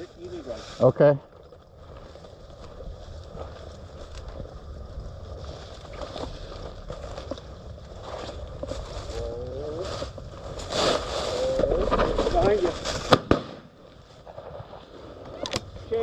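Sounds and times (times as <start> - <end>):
footsteps through dry cover: 0.0 - 15.2
low wind-like rumble: 0.0 - 16.0.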